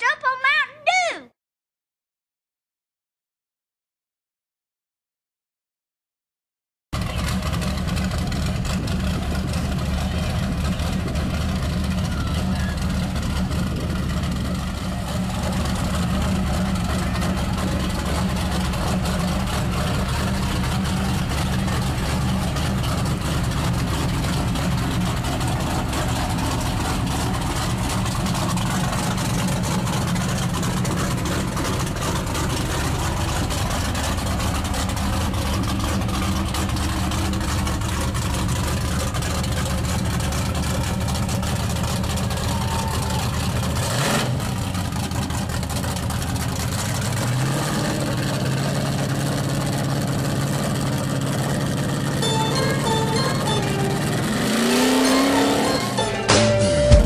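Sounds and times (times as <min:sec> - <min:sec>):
truck engine running steadily: 0:07.0 - 0:57.0
truck wading through water: 0:07.0 - 0:57.0.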